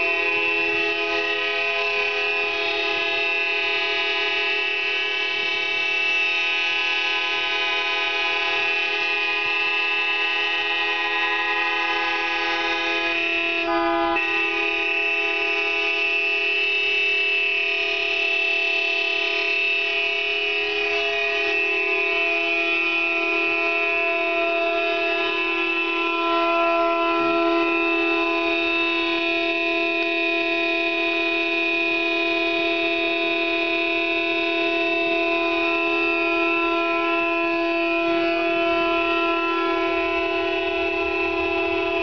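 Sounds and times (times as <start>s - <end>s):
warning siren hooting: 0.0s - 42.0s.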